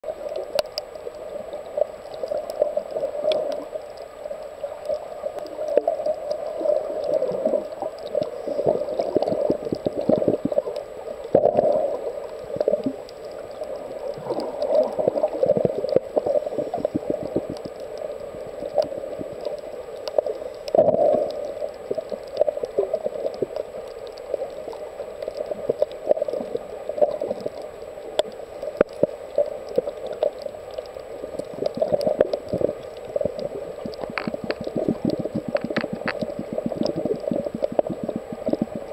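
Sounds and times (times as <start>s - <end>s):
underwater gurgling and sloshing: 0.0s - 38.9s
faint clicks: 0.1s - 38.9s.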